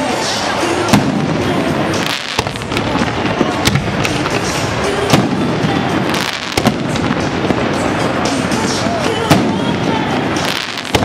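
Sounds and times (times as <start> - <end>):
continuous din: 0.0 - 11.0
firework shells bursting: 1.9 - 11.0.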